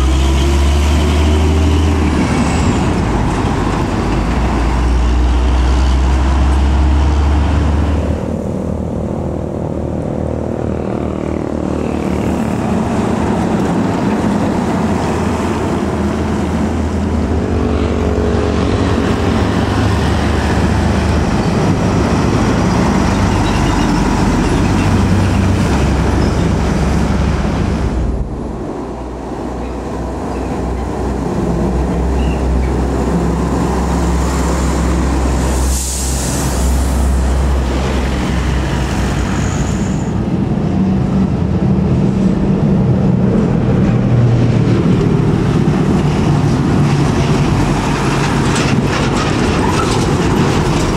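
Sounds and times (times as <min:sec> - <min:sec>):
diesel trucks passing: 0:00.0 - 0:50.9.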